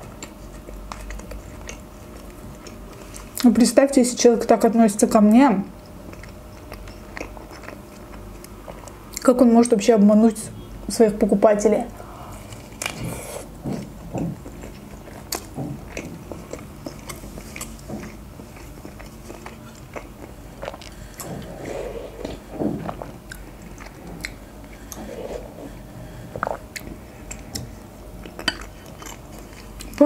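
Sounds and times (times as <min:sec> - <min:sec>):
person chewing food: 0:00.0 - 0:03.4, 0:05.8 - 0:09.2, 0:12.0 - 0:30.0.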